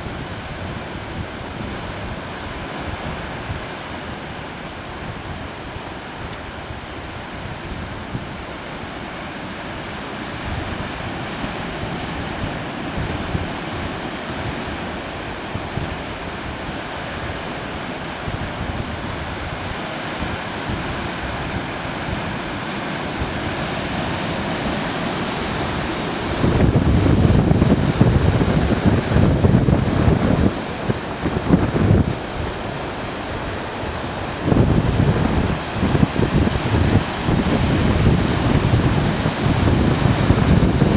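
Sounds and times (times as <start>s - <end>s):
surf washing against rocks: 0.0s - 40.9s
wind buffeting microphone: 0.0s - 40.9s.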